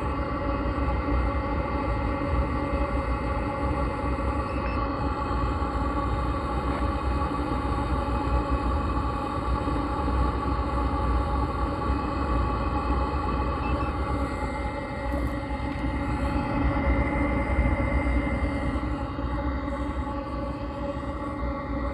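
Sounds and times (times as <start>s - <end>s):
heater fan motor whine: 0.0s - 21.9s.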